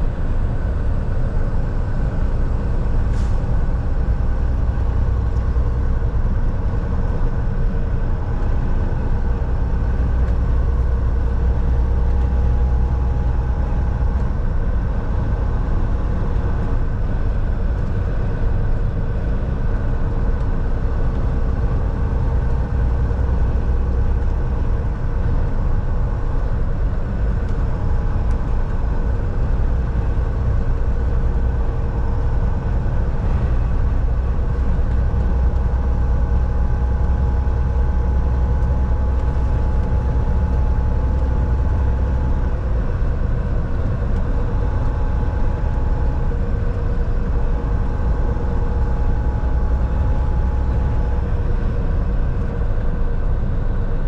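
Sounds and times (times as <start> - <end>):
low road rumble: 0.0 - 54.0
truck diesel engine drone: 0.0 - 54.0.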